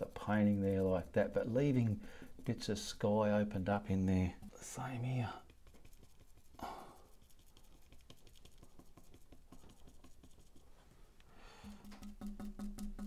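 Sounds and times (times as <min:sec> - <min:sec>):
brush dabbing paint on canvas: 0:00.0 - 0:13.0.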